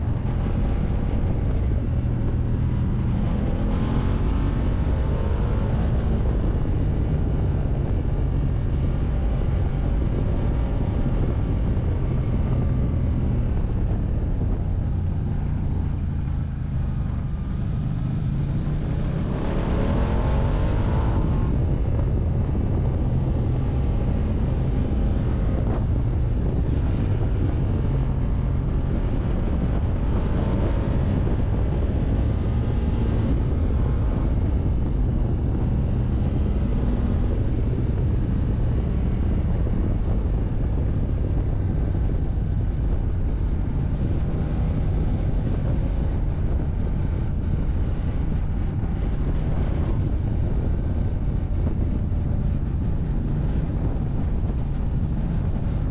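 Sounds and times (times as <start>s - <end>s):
motorcycle engine riding: 0.0s - 55.9s
wind rush: 0.0s - 55.9s.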